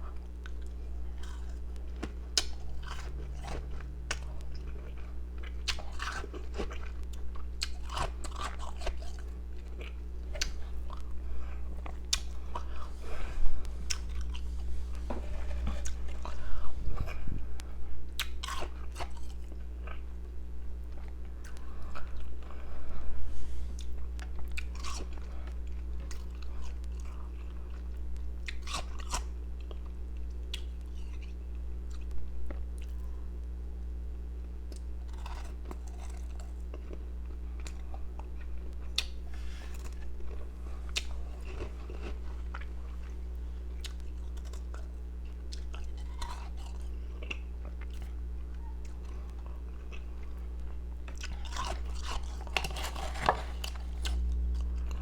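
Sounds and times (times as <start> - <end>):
person chewing crunchy ice: 0.0 - 20.2, 23.7 - 33.0, 34.7 - 55.0
steady low hum: 0.0 - 55.0.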